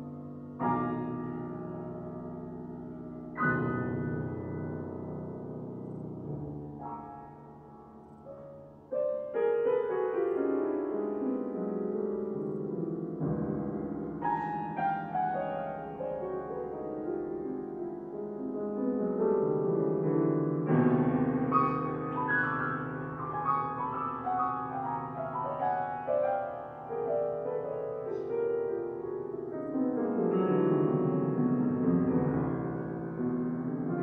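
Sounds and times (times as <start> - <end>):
slow grand piano: 0.0 - 34.0.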